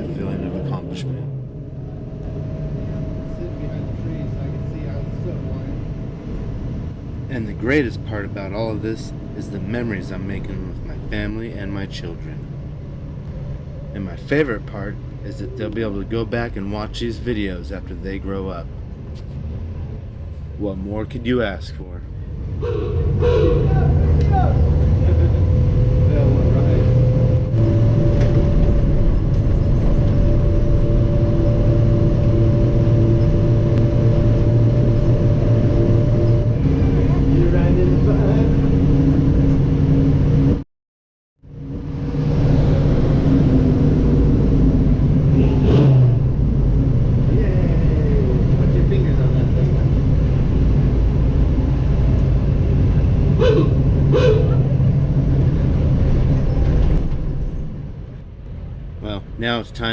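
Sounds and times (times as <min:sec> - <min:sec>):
bus engine running: 0:00.0 - 0:40.6, 0:41.5 - 0:59.9
steady whine: 0:00.0 - 0:40.6, 0:41.4 - 0:59.9.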